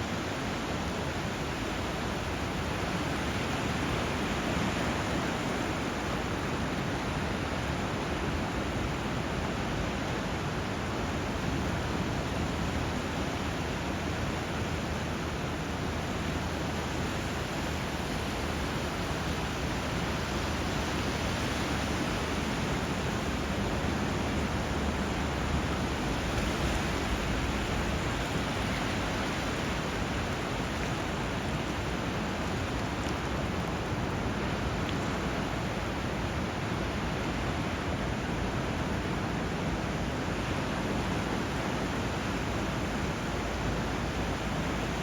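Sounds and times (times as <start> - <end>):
river water rushing: 0.0 - 45.0
surf: 0.0 - 45.0.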